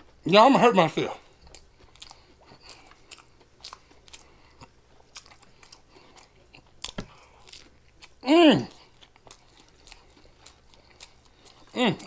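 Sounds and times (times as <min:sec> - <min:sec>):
person chewing wetly: 0:01.2 - 0:12.0.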